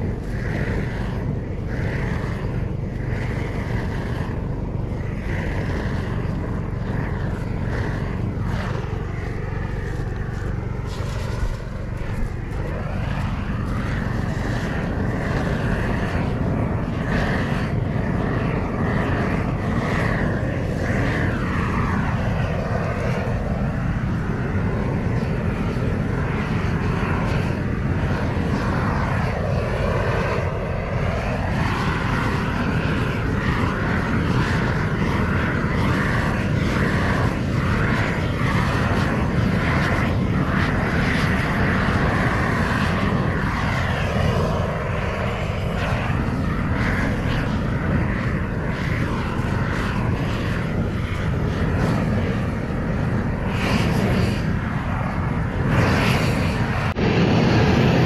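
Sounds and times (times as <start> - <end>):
loud mechanical drone: 0.0 - 58.0.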